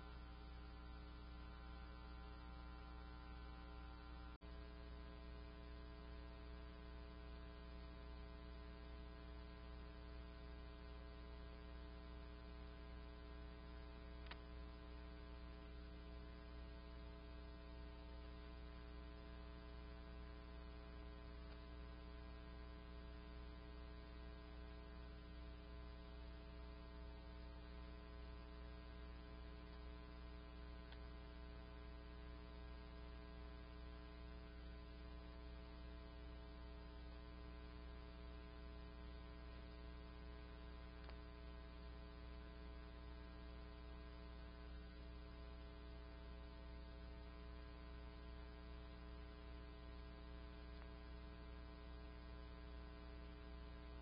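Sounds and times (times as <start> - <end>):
faint electrical hum: 0.0 - 54.0.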